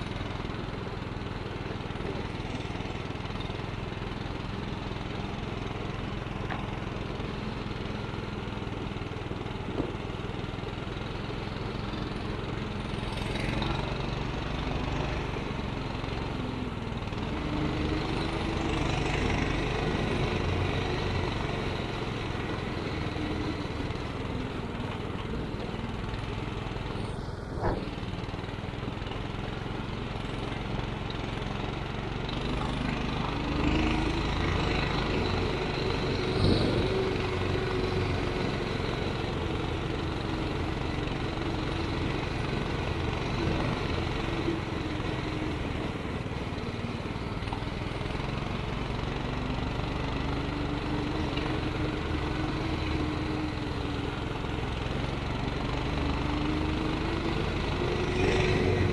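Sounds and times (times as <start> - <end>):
small engine running: 0.0 - 58.9.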